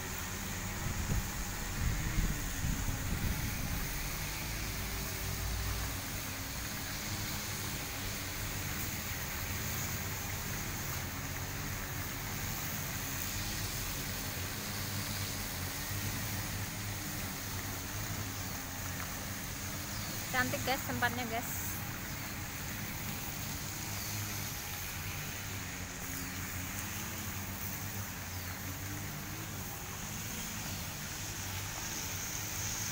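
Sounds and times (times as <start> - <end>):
distant grass-cutting machines hum: 0.0 - 32.9
pond fountain jets splashing: 0.0 - 32.9.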